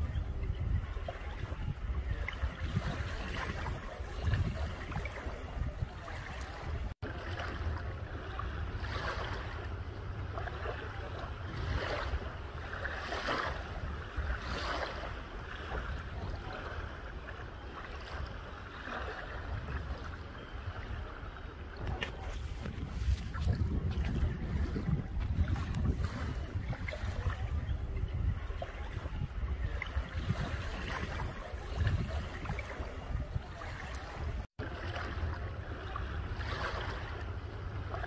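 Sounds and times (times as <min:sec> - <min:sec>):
wavelets lapping on shore: 0:00.0 - 0:38.0
wind rumble on microphone: 0:00.0 - 0:38.0.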